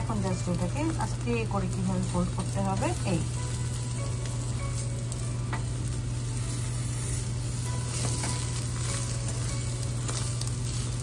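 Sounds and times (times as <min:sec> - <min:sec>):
omelette sizzling in frying pan: 0:00.0 - 0:11.0.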